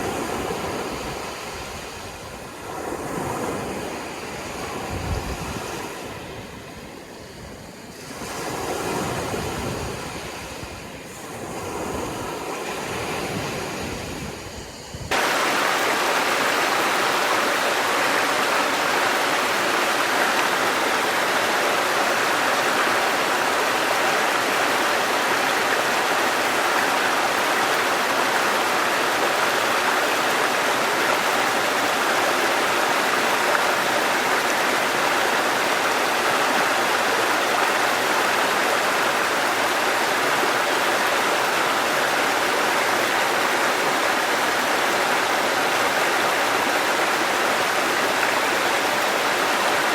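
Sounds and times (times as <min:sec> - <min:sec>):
sea waves washing in: 0:00.0 - 0:49.9
steady rush of running water: 0:00.0 - 0:49.9.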